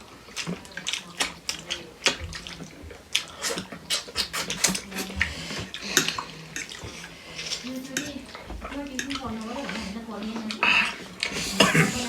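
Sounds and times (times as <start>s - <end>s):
wet chewing and lip-smacking: 0.0s - 12.0s.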